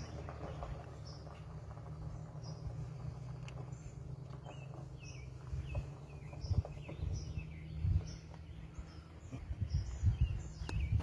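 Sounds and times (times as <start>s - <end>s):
bird chirping: 0.0s - 11.0s
low rumble: 0.0s - 11.0s.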